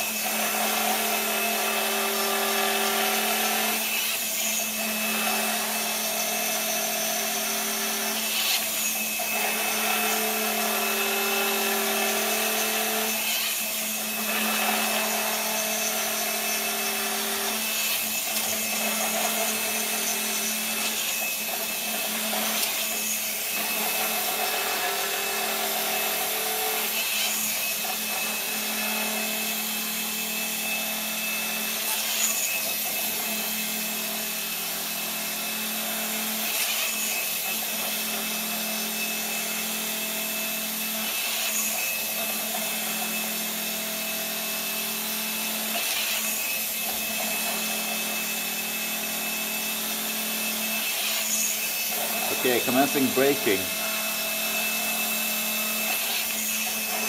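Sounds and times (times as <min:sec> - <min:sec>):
rasping whir: 0:00.0 - 0:57.0.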